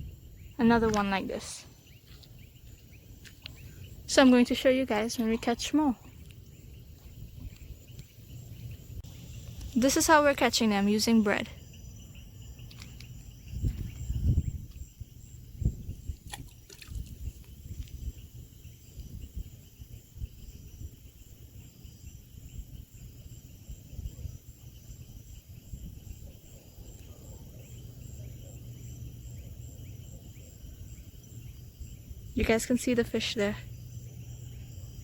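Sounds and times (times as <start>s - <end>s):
crickets and insects chirping: 0.0s - 35.0s.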